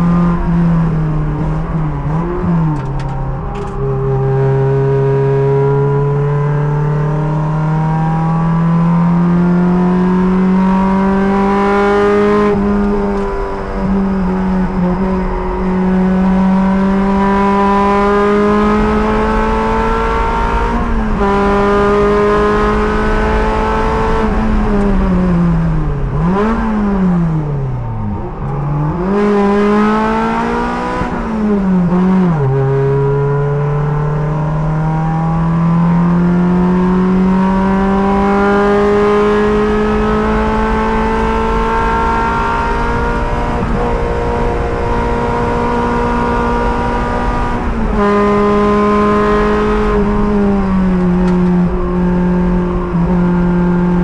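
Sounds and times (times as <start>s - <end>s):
gear shifting with throttle blips: 0.0s - 54.0s
race car engine at high revs: 0.0s - 54.0s.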